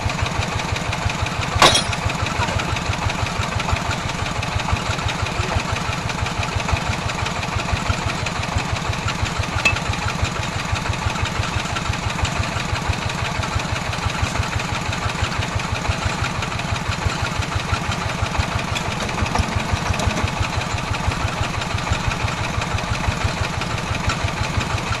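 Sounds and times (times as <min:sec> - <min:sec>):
small engine pulsing steadily: 0:00.0 - 0:25.0.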